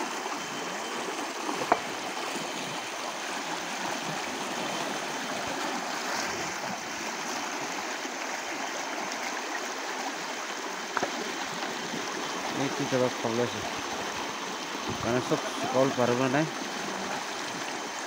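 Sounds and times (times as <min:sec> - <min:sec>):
stream rushing over stones: 0:00.0 - 0:18.0.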